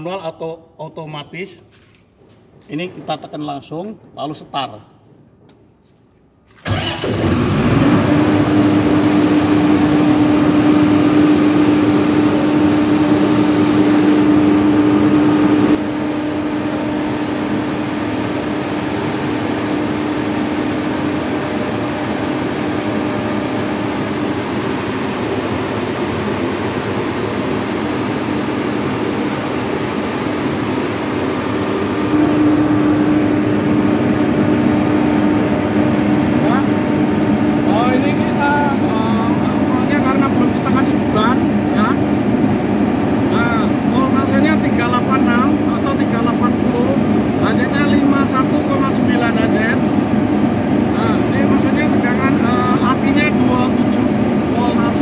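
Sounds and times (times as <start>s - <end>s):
diesel generator humming: 6.5s - 55.0s.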